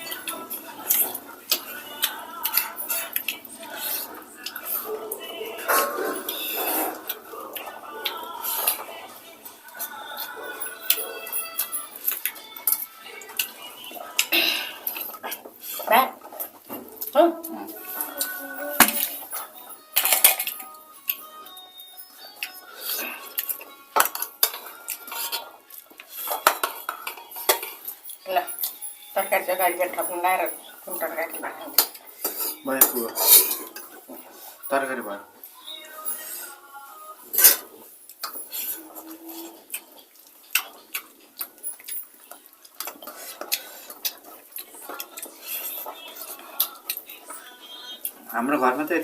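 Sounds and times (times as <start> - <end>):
dishes and cutlery clinking: 0.0 - 36.4, 37.2 - 49.0.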